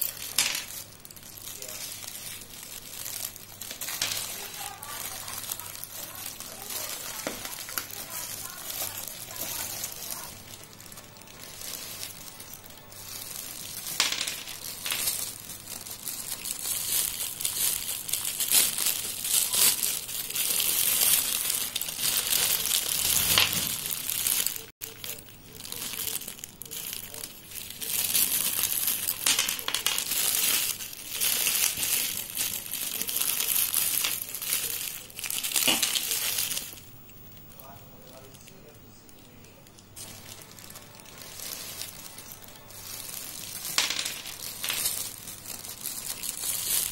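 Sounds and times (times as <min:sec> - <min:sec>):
plastic bag crinkling: 0:00.0 - 0:46.9.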